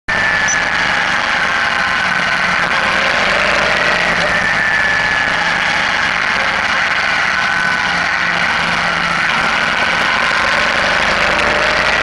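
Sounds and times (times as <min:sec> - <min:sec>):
motorcycle engine running: 0:00.0 - 0:12.0
thin high whine: 0:00.1 - 0:12.0.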